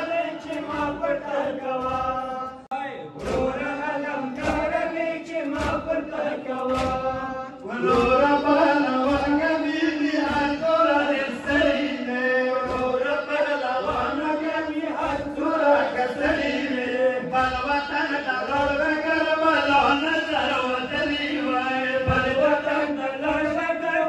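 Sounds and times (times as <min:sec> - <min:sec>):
men chanting a lament: 0:00.0 - 0:24.0.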